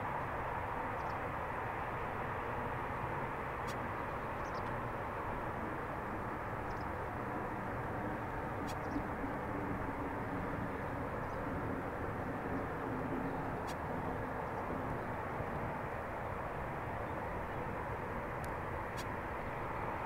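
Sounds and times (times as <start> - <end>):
jet engine rumble with whine: 0.0 - 20.0.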